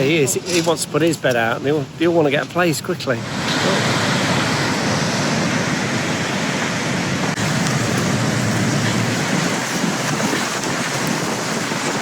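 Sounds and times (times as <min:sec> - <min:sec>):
stormy sea waves breaking: 0:00.0 - 0:12.0.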